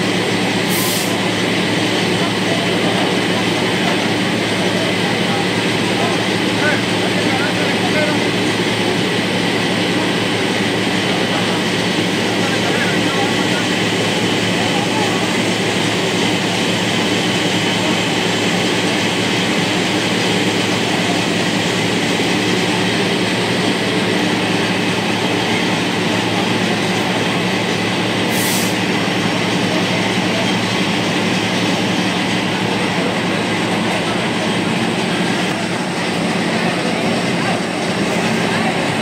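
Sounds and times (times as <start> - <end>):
truck engine droning: 0.0 - 39.0.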